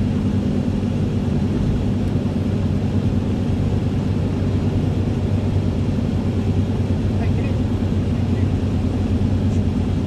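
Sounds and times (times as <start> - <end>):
car cabin road and engine drone: 0.0 - 10.0.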